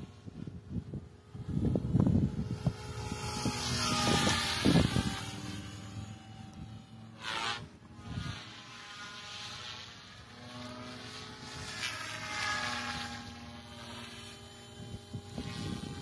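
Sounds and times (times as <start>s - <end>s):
model helicopter rotor whine: 0.0s - 16.0s.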